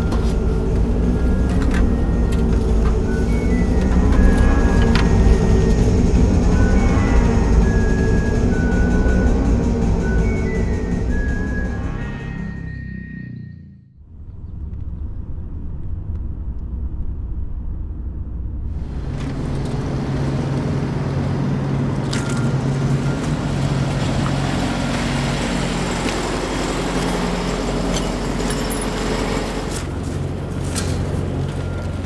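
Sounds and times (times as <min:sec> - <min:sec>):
engine hum and hiss: 0:00.0 - 0:12.6, 0:18.7 - 0:32.0
traffic rumble: 0:00.0 - 0:12.8, 0:14.0 - 0:32.0.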